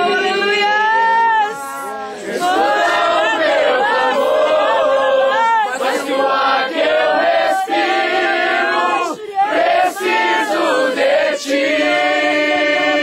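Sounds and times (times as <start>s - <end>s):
group singing a worship song: 0.0s - 13.0s.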